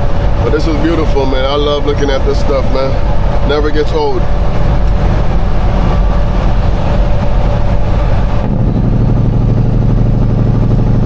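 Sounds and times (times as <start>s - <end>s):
engine brake rapid low pulsing: 0.0s - 11.0s
truck diesel engine running: 0.0s - 11.0s.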